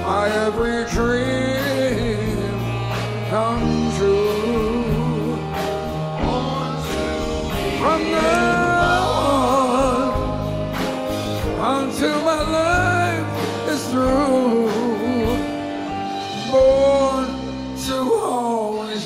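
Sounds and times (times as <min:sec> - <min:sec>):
drums with cymbals: 0:00.0 - 0:19.0
electric bass: 0:00.0 - 0:19.0
man singing: 0:00.0 - 0:19.0.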